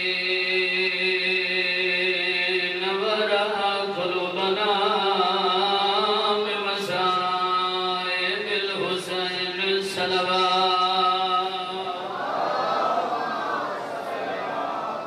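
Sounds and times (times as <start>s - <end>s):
man chanting into microphone: 0.0s - 12.1s.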